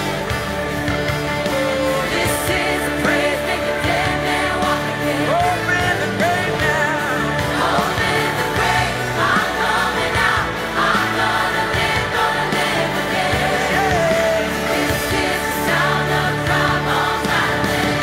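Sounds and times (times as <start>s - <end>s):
keyboard and band playing: 0.0s - 18.0s
choir singing: 1.3s - 18.0s
lead vocalist singing: 1.4s - 18.0s.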